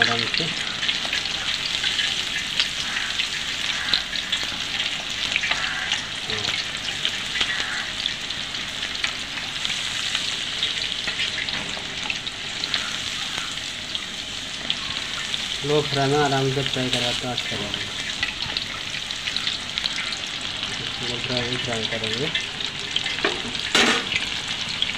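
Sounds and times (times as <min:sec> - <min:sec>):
chicken deep-frying in oil: 0:00.0 - 0:24.9.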